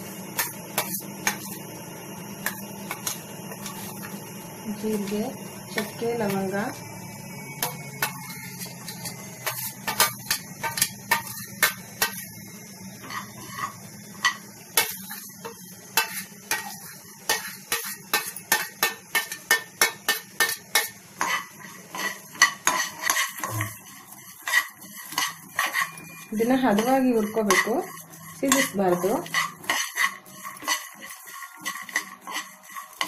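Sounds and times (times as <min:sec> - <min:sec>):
spatula scraping pan: 0:00.0 - 0:01.7, 0:02.4 - 0:06.6, 0:07.6 - 0:12.4, 0:13.0 - 0:33.0.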